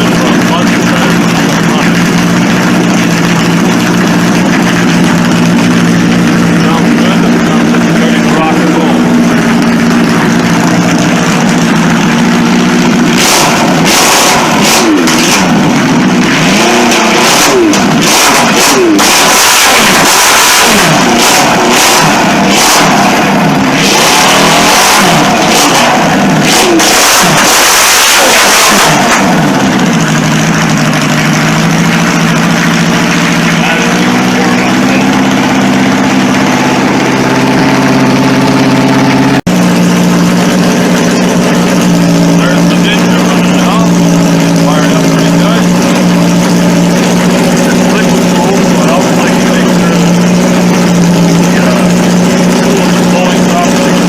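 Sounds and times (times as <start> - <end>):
tractor engine idling and revving: 0.0 - 54.0.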